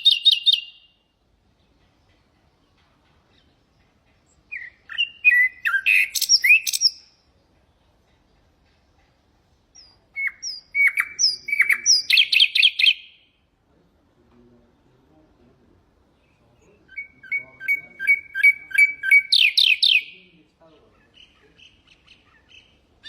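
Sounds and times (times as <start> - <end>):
nightingale singing: 0.0 - 13.5, 16.1 - 23.0.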